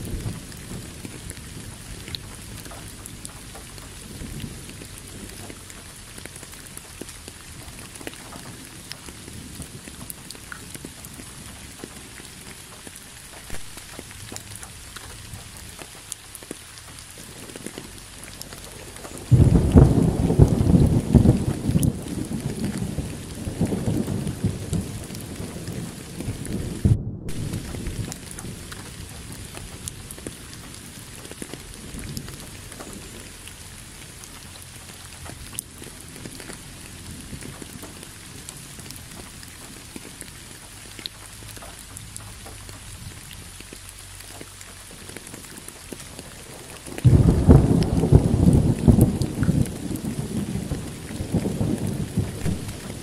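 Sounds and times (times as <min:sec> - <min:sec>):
thunder rumbling: 0:00.0 - 0:44.2, 0:44.8 - 0:53.0
rain hissing: 0:00.0 - 0:53.0.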